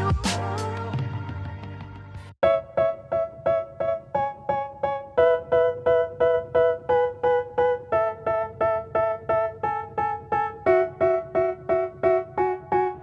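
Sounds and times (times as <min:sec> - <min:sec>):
keyboard striking repeated chord: 0:02.4 - 0:13.0.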